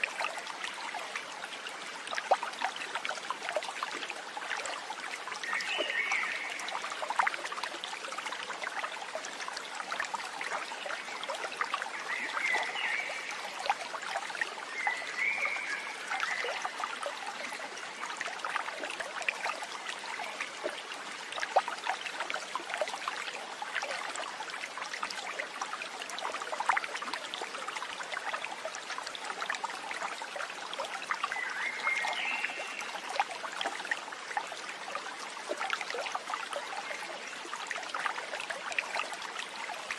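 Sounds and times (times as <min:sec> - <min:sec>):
water babbling in a stream: 0:00.0 - 0:39.9.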